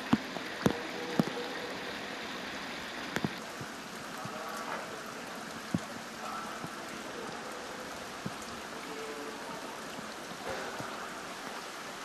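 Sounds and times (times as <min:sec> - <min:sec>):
rain hissing: 0:00.0 - 0:12.0
running water: 0:00.0 - 0:12.0.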